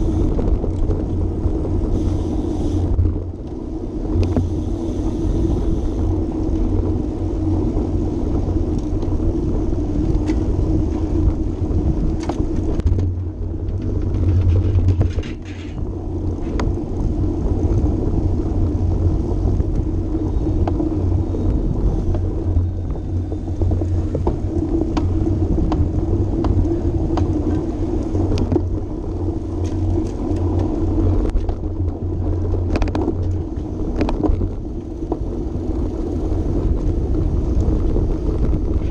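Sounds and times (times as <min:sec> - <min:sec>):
wind and tyre rumble: 0:00.0 - 0:38.9.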